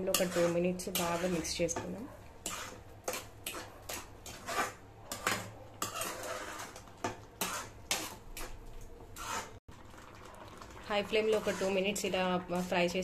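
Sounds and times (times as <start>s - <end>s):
spoon scraping a steel pan: 0.0s - 8.6s, 9.2s - 9.6s, 10.9s - 13.0s.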